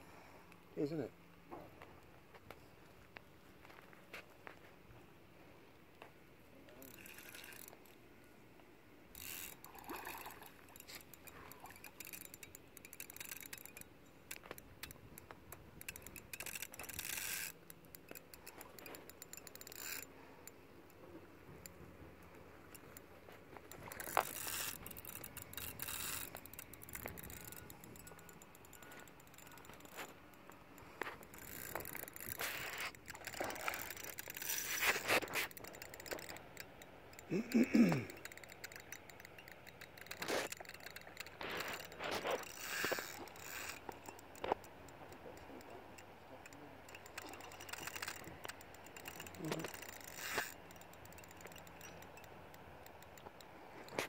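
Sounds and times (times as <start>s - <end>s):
fishing reel scraping and clicking: 6.7s - 8.0s, 9.1s - 54.0s.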